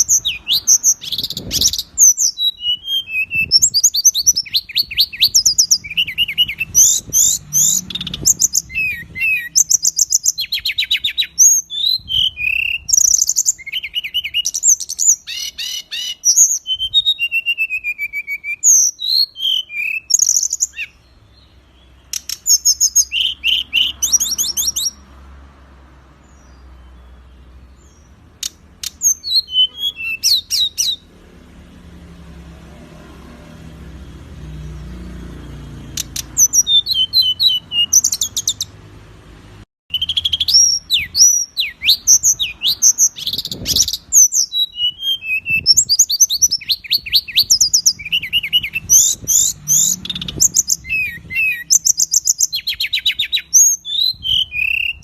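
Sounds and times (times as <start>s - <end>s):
songbird singing rapid high notes: 0.0s - 25.1s, 26.2s - 31.1s, 34.4s - 38.8s, 39.9s - 55.0s.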